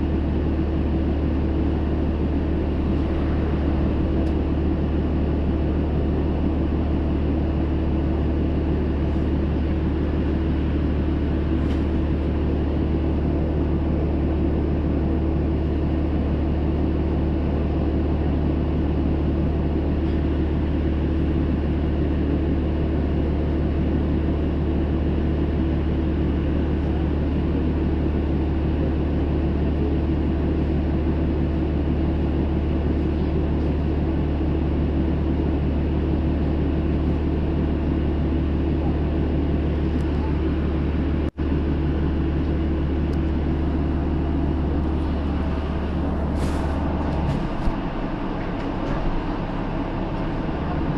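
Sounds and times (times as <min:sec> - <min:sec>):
bus diesel engine humming: 0:00.0 - 0:50.9.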